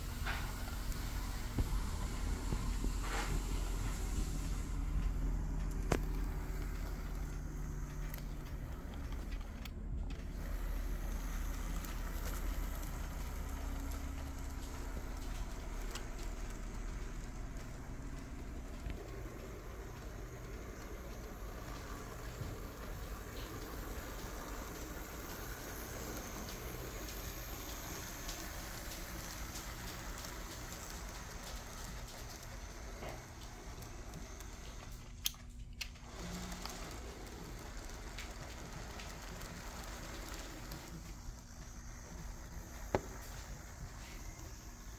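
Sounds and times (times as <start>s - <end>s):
model train motor whir and rattle: 0.0s - 44.9s.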